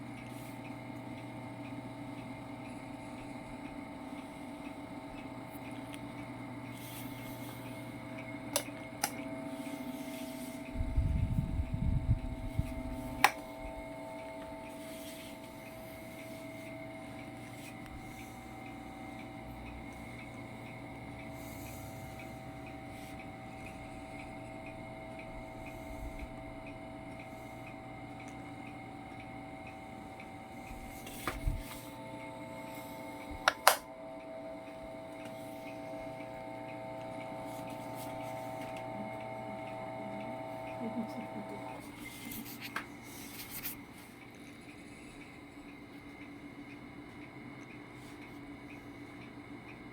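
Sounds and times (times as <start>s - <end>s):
electric fan motor hum: 0.0s - 49.9s.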